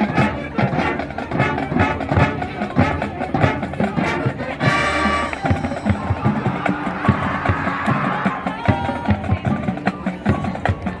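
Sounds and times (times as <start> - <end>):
marching band brass: 0.0 - 11.0
steady drum beat: 0.0 - 11.0.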